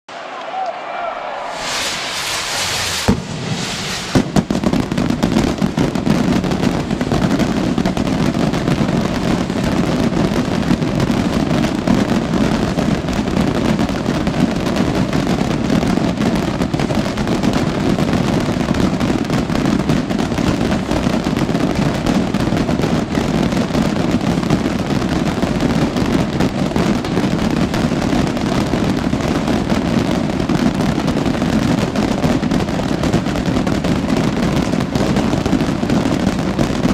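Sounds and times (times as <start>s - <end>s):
rockets exploding in barrage: 1.3s - 36.9s.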